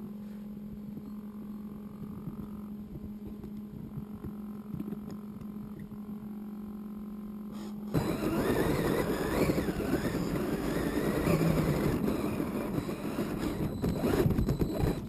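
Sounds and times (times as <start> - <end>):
faint high whine: 0.0 - 15.0
low electrical hum: 0.0 - 15.0.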